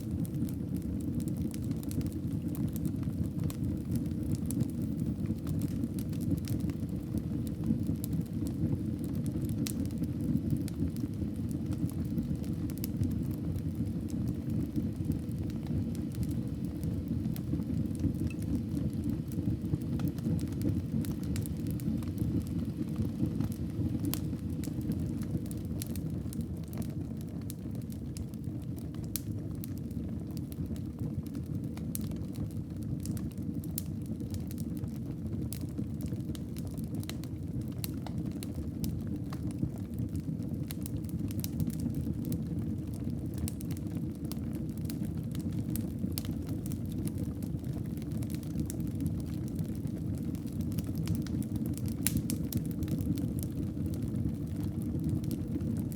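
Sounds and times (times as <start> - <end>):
fire crackles and pops: 0.0 - 55.9
wood fire burning: 0.0 - 55.9.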